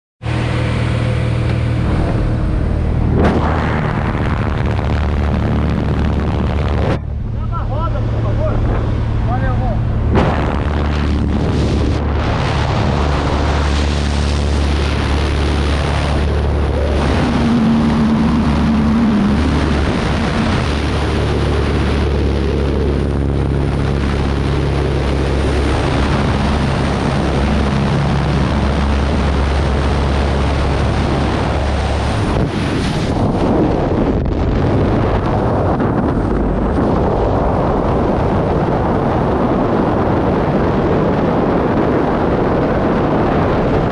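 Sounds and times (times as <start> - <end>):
propeller engine drone: 0.2 - 43.9
wind rushing over microphone: 0.2 - 43.9.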